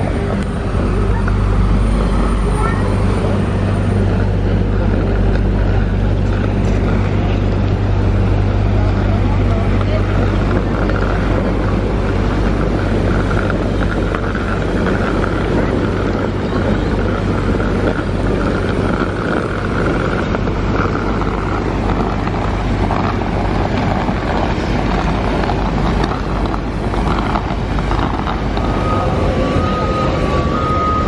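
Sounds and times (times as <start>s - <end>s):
faint high whine: 0.0s - 31.0s
ground machinery hum and rush: 0.0s - 31.0s.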